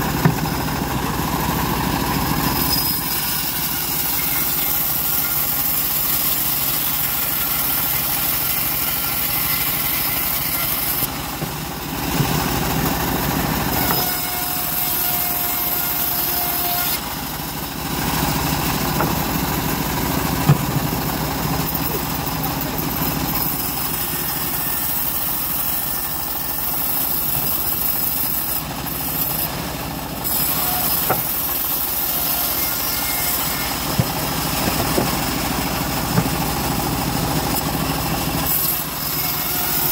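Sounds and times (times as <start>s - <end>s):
bandsaw mill cutting wood: 0.0s - 39.9s.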